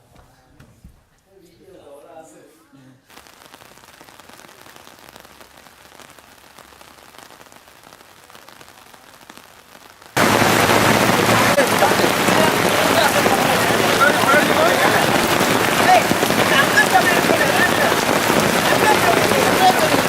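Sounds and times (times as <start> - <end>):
faint steady hiss: 1.2 - 20.0
heavy rain on a surface: 3.1 - 20.0.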